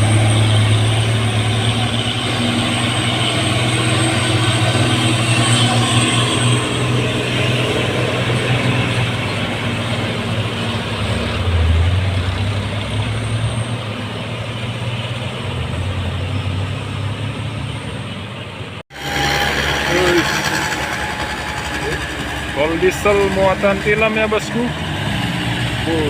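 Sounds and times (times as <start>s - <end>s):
road noise: 0.0s - 26.0s
truck engines labouring: 0.0s - 26.0s.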